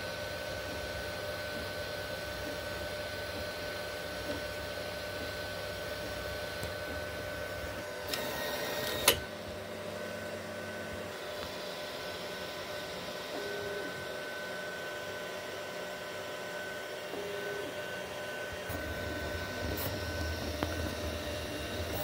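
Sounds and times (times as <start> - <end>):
printer humming: 0.0 - 22.0.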